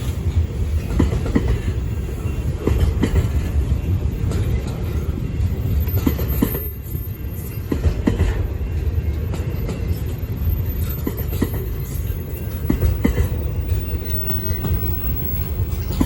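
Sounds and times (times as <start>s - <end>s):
freight train rumbling past: 0.0s - 16.0s
wheels clicking over rail joints: 0.0s - 16.0s.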